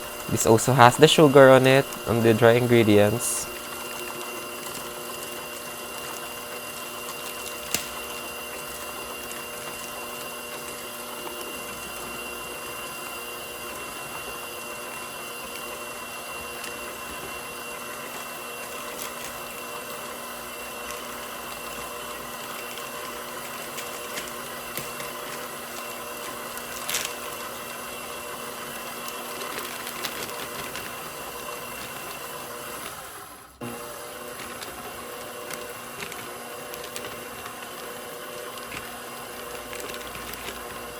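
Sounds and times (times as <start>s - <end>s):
stand mixer motor whining: 0.0s - 40.9s.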